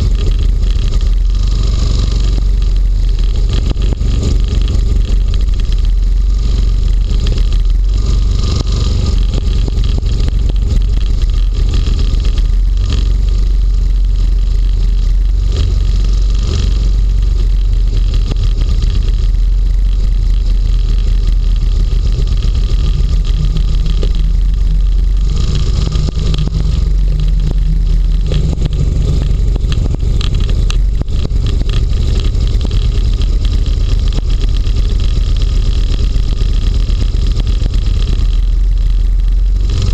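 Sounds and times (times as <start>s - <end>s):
hovercraft engine and propeller: 0.0s - 39.9s.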